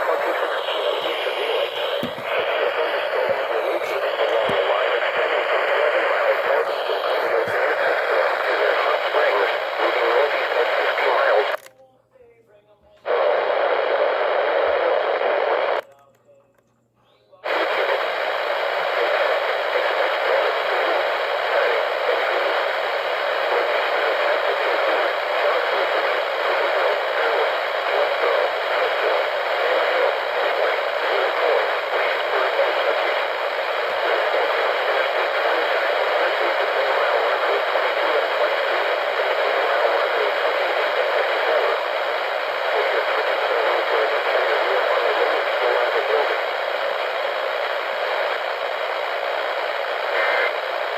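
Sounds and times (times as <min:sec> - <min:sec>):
radio static: 0:00.0 - 0:11.7, 0:13.0 - 0:15.9, 0:17.1 - 0:50.9.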